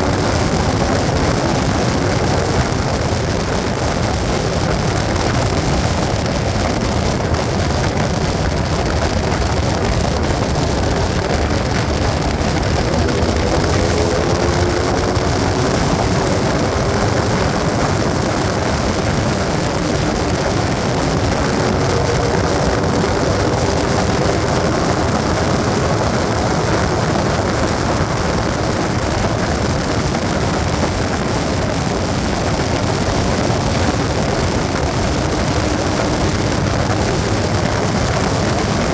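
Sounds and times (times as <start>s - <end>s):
motorcycle engine running: 0.0s - 38.9s
rushing wind noise: 0.0s - 38.9s.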